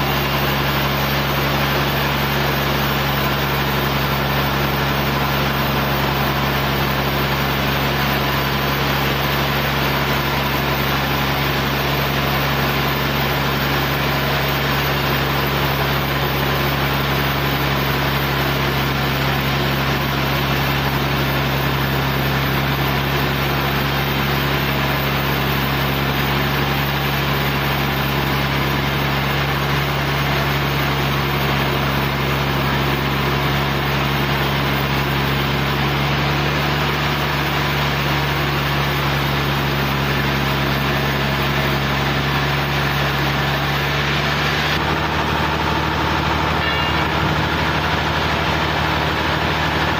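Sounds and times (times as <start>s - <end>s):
sawmill engine humming: 0.0s - 49.9s.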